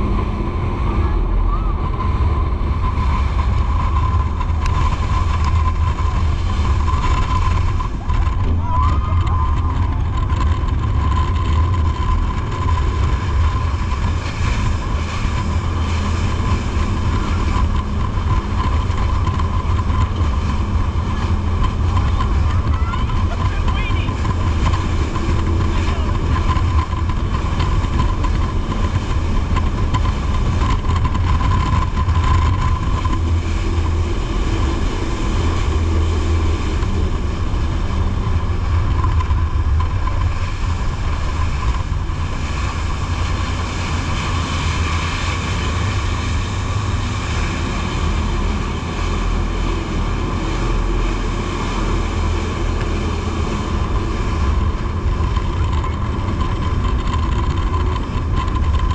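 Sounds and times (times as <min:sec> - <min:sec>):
boat engine drone: 0:00.0 - 0:58.9
water rushing along hull: 0:00.0 - 0:58.9.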